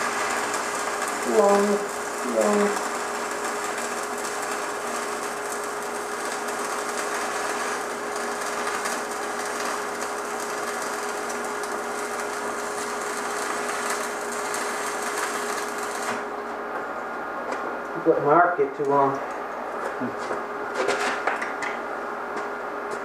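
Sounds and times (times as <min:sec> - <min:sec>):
welding arc sizzling: 0:00.0 - 0:19.9.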